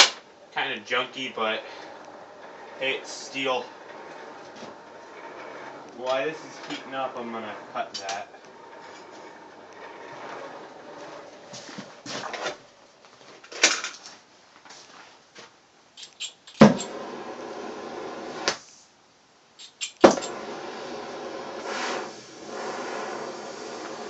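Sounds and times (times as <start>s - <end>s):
steady hum: 0.0s - 13.0s, 15.7s - 24.0s.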